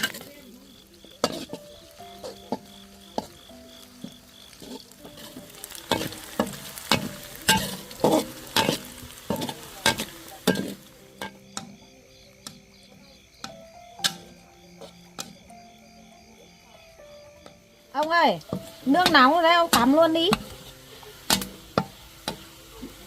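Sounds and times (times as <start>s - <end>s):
faint hiss: 0.0s - 23.0s.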